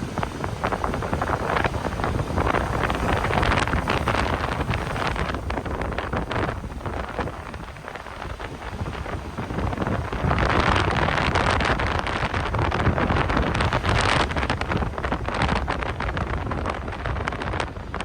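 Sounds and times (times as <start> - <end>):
gusty wind buffeting microphone: 0.0 - 18.0
heavy surf: 0.0 - 18.0.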